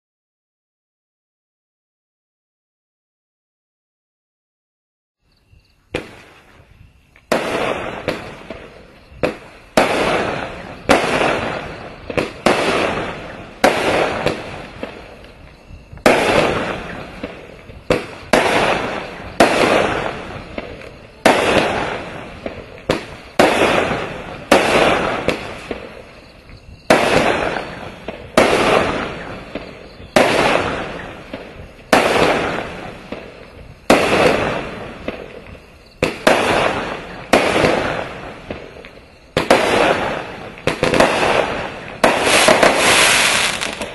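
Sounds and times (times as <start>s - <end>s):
firework shots firing: 5.9s - 26.3s, 26.9s - 43.9s.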